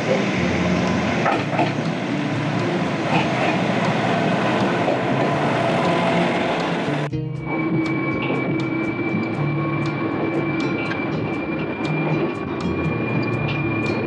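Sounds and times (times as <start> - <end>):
diesel railcar engine running: 0.0 - 14.0
train wheels clattering on rails: 0.0 - 14.0.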